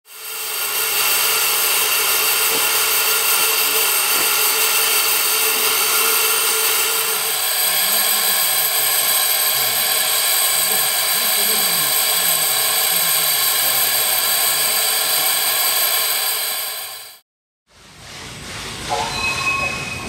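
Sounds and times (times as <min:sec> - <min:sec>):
steam locomotive hissing: 0:00.1 - 0:17.2.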